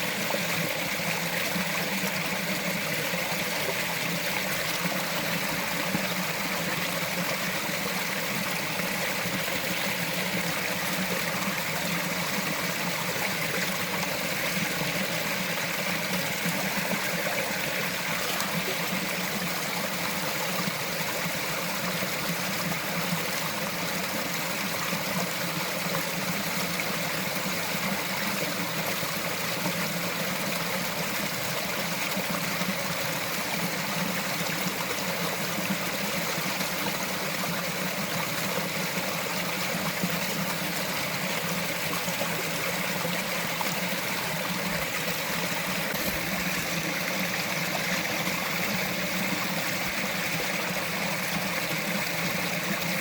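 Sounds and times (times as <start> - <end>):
stream trickling over rocks: 0.0 - 53.0.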